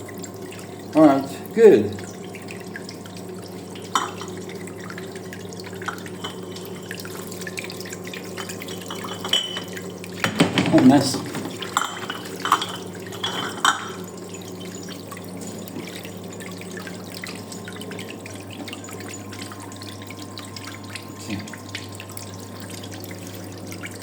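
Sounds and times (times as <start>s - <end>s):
low machine hum: 0.0s - 24.0s
water splashing and dripping: 0.0s - 24.0s.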